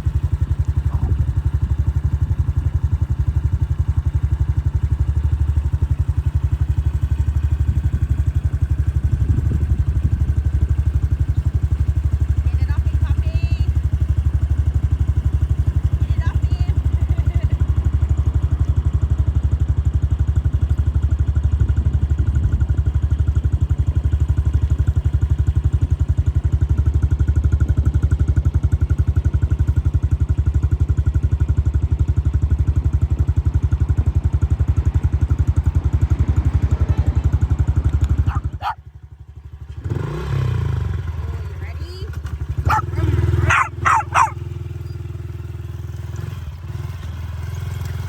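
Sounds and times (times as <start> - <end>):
motorcycle engine rumbling: 0.0 - 26.6, 27.2 - 48.0.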